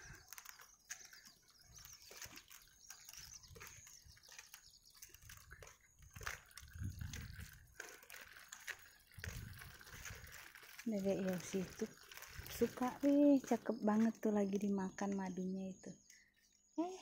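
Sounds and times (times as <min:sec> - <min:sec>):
faint footsteps: 0:00.0 - 0:15.2.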